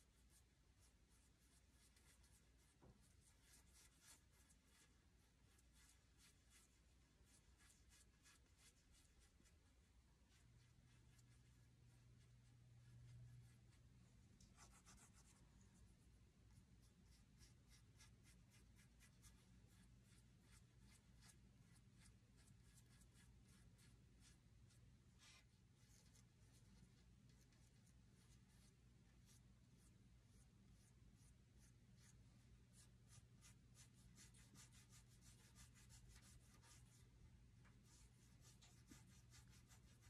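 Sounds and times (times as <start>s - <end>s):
paintbrush scratching on wood: 0.0s - 15.6s, 16.5s - 37.1s, 37.7s - 40.0s
low steady hum: 0.0s - 40.0s.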